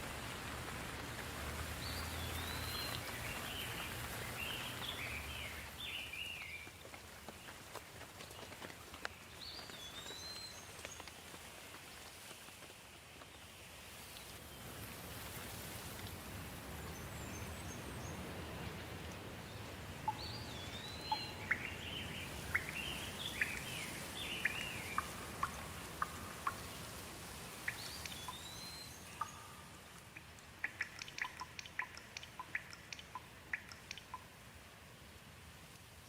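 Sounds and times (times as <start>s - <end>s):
water drips: 0.0s - 11.2s, 14.9s - 34.6s
songbirds chirping: 0.0s - 36.0s
steady rain: 0.0s - 36.0s.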